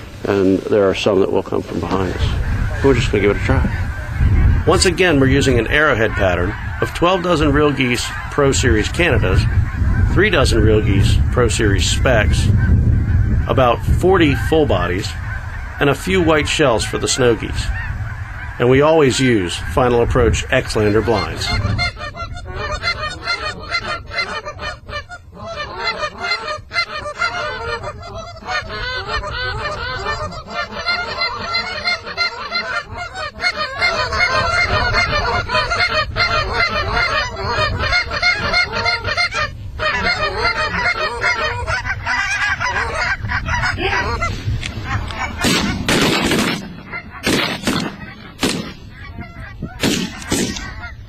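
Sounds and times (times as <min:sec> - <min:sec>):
geese honking: 0:00.0 - 0:51.0
low wind rumble: 0:00.0 - 0:51.0.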